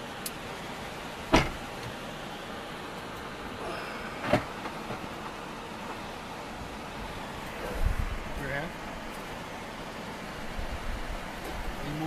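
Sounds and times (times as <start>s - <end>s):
vehicle interior noise: 0.0s - 12.0s.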